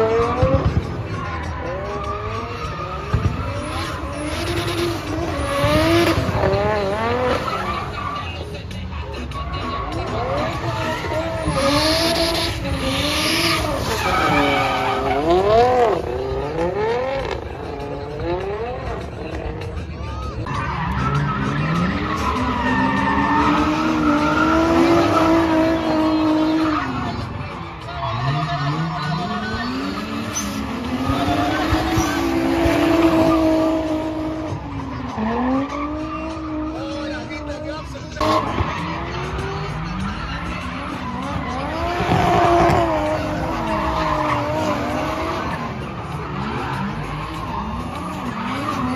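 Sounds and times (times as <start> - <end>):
car engine revving: 0.0 - 48.9
tyres skidding and hissing: 0.0 - 48.9.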